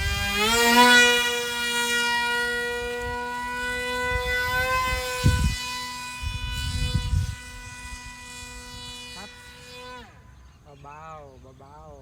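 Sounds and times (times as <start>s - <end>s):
model jet motor whining: 0.0s - 10.7s.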